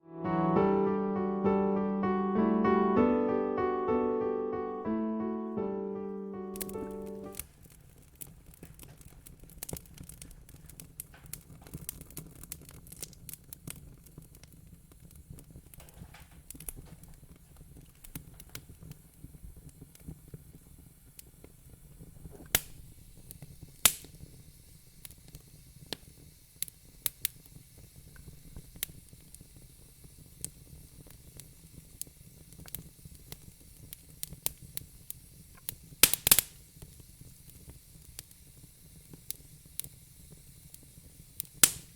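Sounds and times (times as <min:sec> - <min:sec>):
fire crackling and popping: 0:06.5 - 0:41.9.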